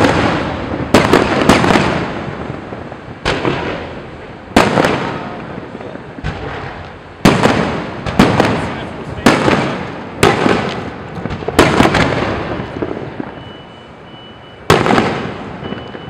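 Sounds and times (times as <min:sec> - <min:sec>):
firework shells booming: 0:00.0 - 0:14.0, 0:14.6 - 0:16.0.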